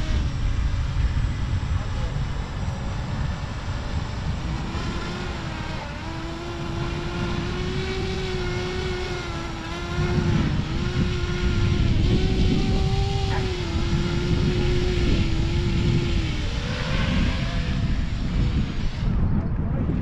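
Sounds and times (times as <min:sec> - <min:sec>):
drone propellers whining: 0:00.0 - 0:20.0
wind buffeting microphone: 0:00.0 - 0:20.0.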